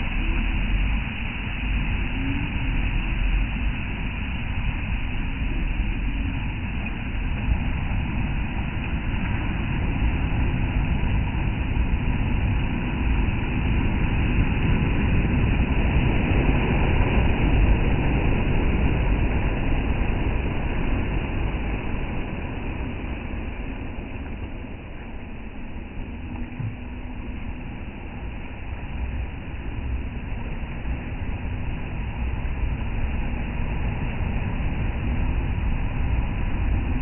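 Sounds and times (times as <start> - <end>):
ocean surf rumbling: 0.0 - 37.0.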